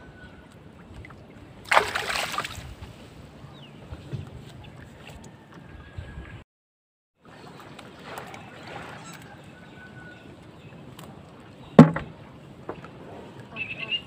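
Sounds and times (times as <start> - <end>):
water noise: 0.0 - 6.4, 7.2 - 14.0
wind: 0.0 - 6.4, 7.2 - 14.0.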